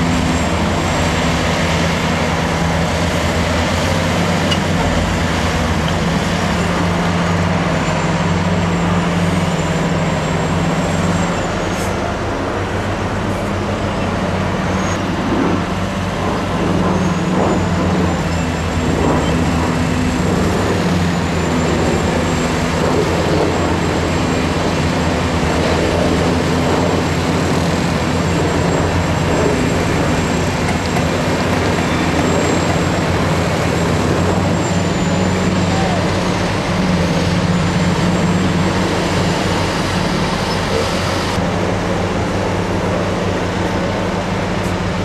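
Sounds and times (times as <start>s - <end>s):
heavy diesel engines running: 0.0s - 45.0s.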